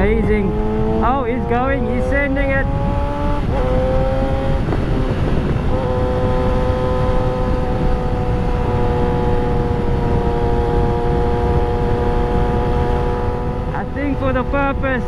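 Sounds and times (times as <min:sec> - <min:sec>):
motorcycle engine at high revs: 0:00.0 - 0:15.0
wind rumble: 0:00.0 - 0:15.0.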